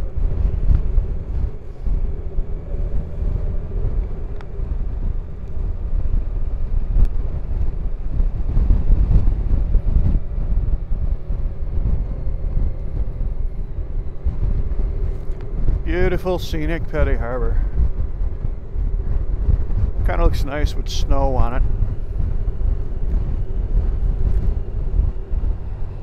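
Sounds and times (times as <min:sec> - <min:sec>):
motorcycle engine hum: 0:00.0 - 0:26.0
wind buffeting microphone: 0:00.0 - 0:26.0.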